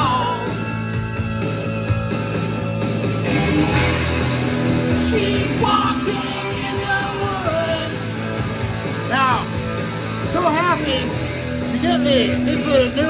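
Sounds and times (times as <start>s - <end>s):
rock song with singer: 0.0s - 13.0s.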